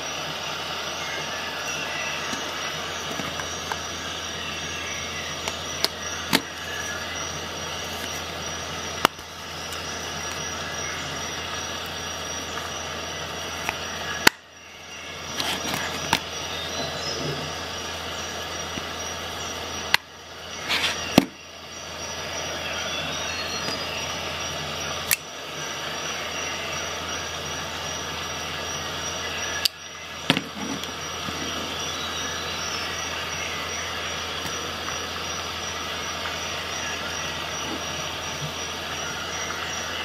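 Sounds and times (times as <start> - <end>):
steady background hiss: 0.0 - 40.0.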